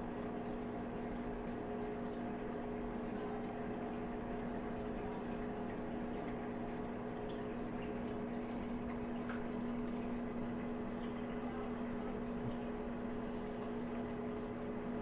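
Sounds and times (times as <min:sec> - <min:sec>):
filter pump humming: 0:00.0 - 0:15.0
moving water: 0:00.0 - 0:15.0.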